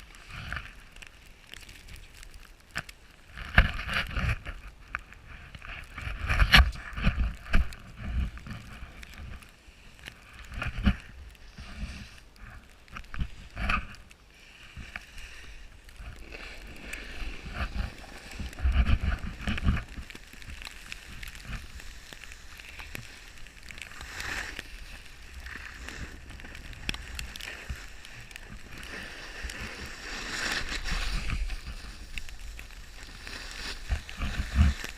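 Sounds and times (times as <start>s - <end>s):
snowboard scraping over snow: 3.1s - 34.9s.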